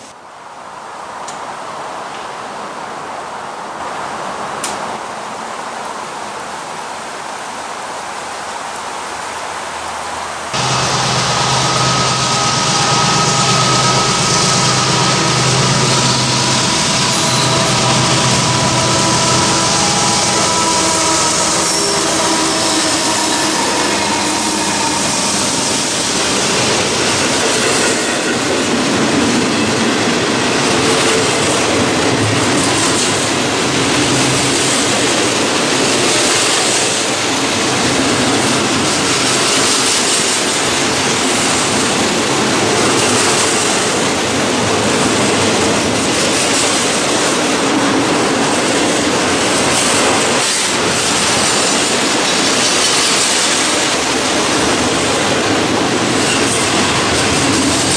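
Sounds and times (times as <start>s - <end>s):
diesel locomotive engines: 10.5s - 57.9s
freight cars rolling on rails: 10.5s - 57.9s.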